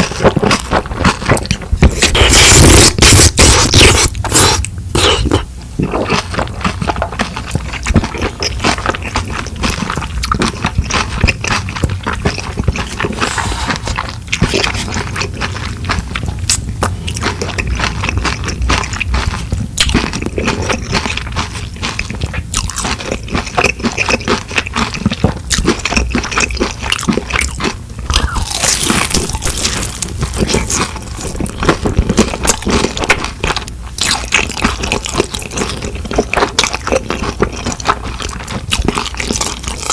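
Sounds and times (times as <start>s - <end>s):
crunchy wet chewing: 0.0s - 39.9s.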